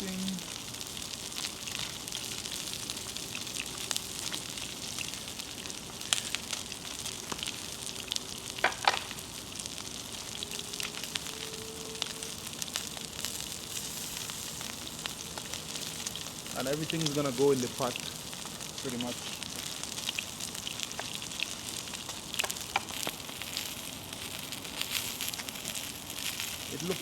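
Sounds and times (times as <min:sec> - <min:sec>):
food sizzling: 0:00.0 - 0:27.0
sharp frying pops: 0:00.0 - 0:27.0.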